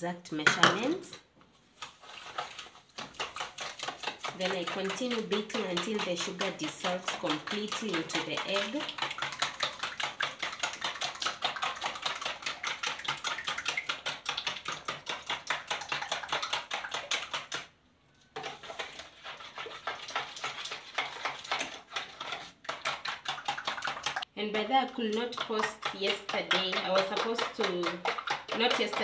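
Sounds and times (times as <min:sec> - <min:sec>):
spoon beating eggs in plastic bowl: 0:01.7 - 0:29.0.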